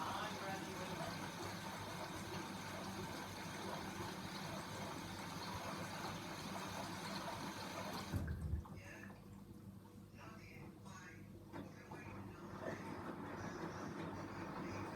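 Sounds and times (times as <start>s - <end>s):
water moving inside machine: 0.0s - 10.8s, 11.5s - 14.9s
washing machine humming: 0.0s - 14.9s.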